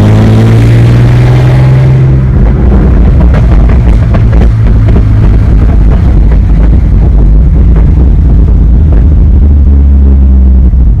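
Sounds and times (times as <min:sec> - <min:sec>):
car exhaust droning: 0:00.0 - 0:11.0
exhaust crackles and pops: 0:00.0 - 0:11.0.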